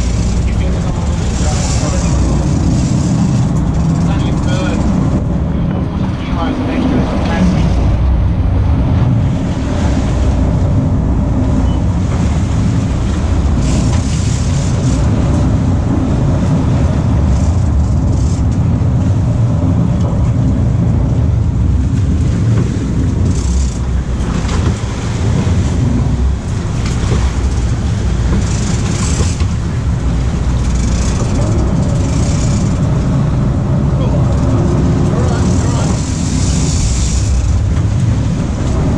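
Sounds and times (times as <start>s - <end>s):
boat engines rumbling: 0.0s - 38.9s
water splashing against hull: 0.0s - 38.9s.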